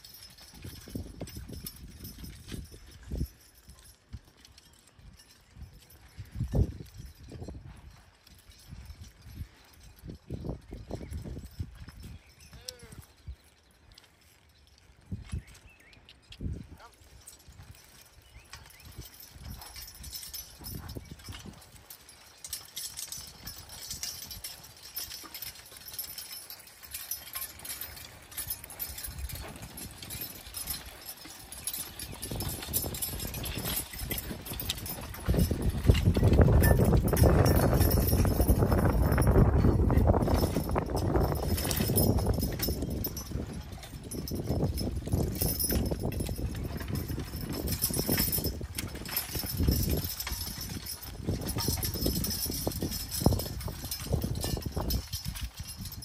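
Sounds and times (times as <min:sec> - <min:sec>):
harness and plow clinks: 0:00.0 - 0:56.0
horse hooves thudding on soft ground: 0:00.0 - 0:56.0.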